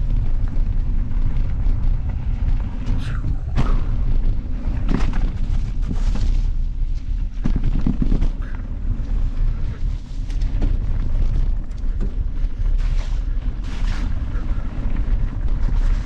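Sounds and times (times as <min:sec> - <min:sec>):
bike knocking and rattling: 0:00.0 - 0:16.0
wind buffeting microphone: 0:00.0 - 0:16.0.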